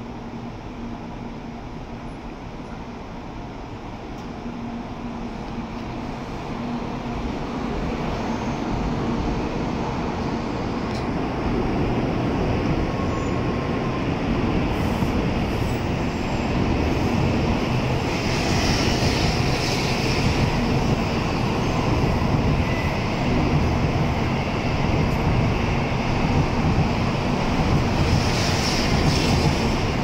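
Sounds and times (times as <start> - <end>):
high-speed train rushing past: 0.0 - 30.0.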